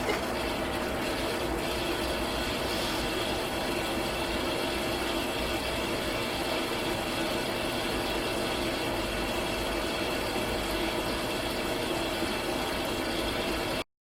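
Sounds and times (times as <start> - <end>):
water rushing from relief valve: 0.0 - 13.8.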